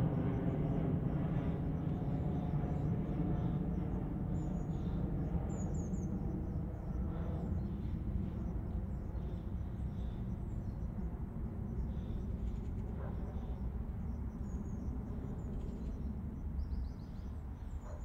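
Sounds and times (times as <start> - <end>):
distant highway traffic rumble: 0.0 - 18.0.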